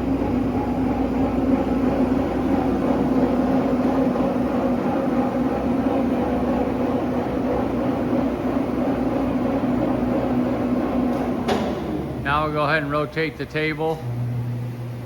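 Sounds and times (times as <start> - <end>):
machine drive humming: 0.0 - 15.0.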